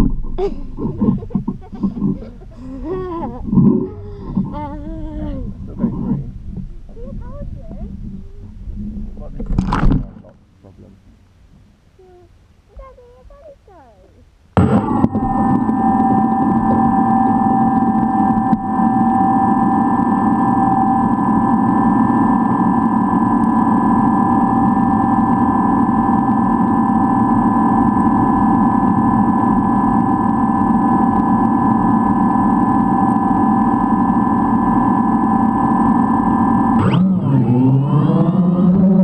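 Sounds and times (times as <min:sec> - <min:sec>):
drone motors whining: 0:00.0 - 0:10.0, 0:14.6 - 0:39.0.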